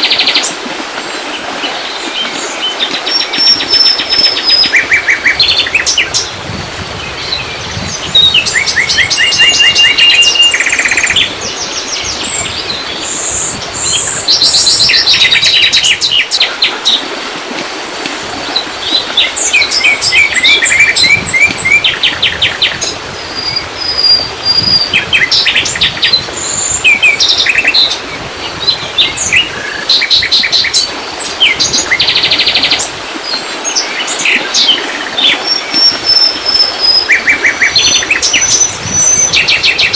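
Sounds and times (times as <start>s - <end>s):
birds singing: 1.1s - 17.0s, 18.5s - 39.9s.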